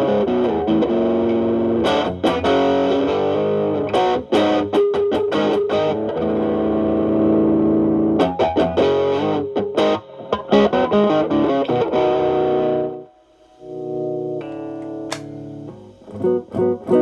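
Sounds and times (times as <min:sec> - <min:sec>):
overdriven electric guitar: 0:00.0 - 0:17.0.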